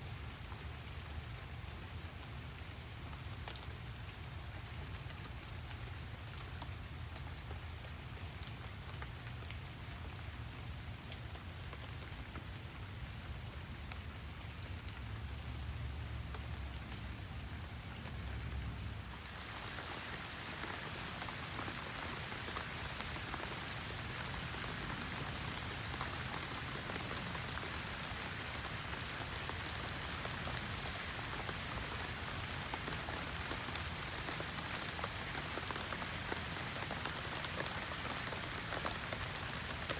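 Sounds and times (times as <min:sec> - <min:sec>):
rain falling: 0:00.0 - 0:39.9
raindrops ticking: 0:02.0 - 0:39.9.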